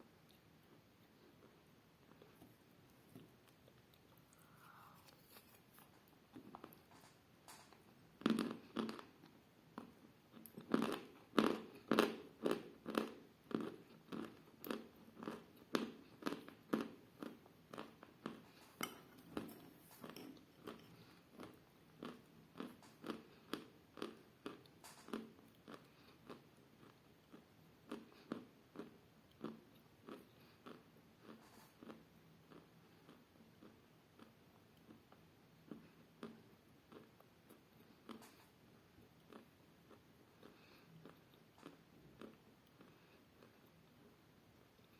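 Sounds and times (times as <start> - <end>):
rhythmic chewing: 0.2 - 44.9.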